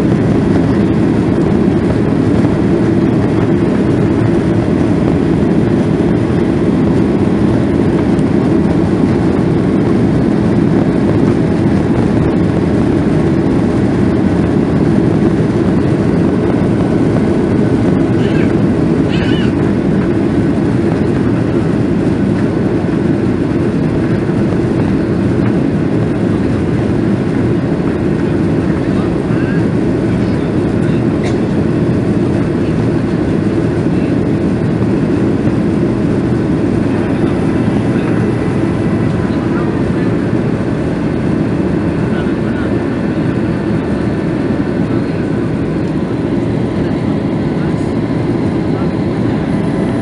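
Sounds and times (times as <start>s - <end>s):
jet engine roar in cabin: 0.0s - 50.0s.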